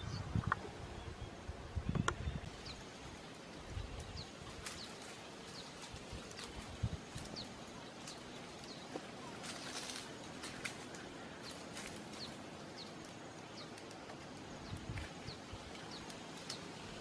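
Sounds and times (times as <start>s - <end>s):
small birds chirping: 0.0s - 17.0s
branches rustling: 2.4s - 17.0s.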